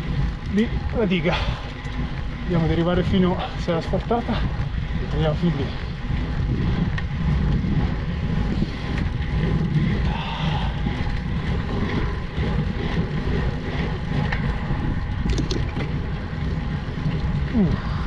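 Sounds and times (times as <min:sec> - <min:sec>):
low rumble of bicycle riding: 0:00.0 - 0:18.0
wind noise on microphone: 0:00.0 - 0:18.0.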